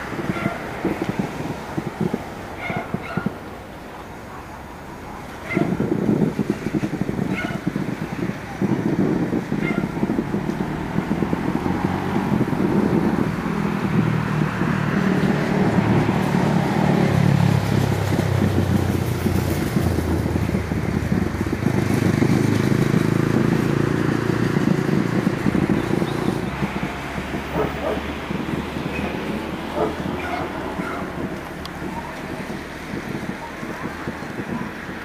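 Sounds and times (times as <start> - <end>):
distant fireworks rumble: 0.0 - 35.0.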